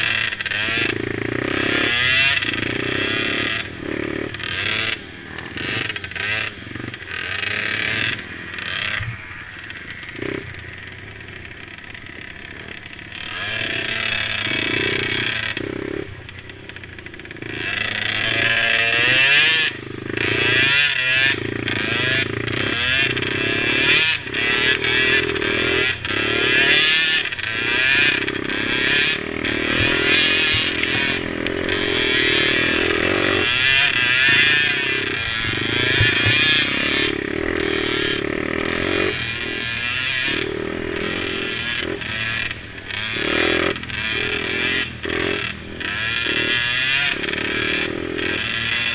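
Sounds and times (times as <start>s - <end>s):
mini quad engines revving: 0.0s - 48.9s.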